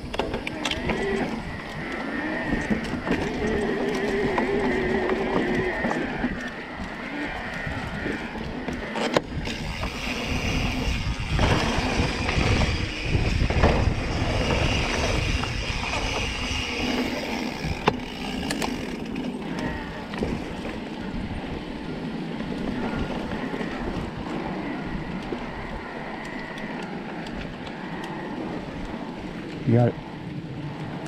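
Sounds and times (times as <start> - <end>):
bike rattling: 0.0 - 31.0
bike tyre riding noise: 0.0 - 31.0
wind rumbling on microphone: 0.0 - 31.0.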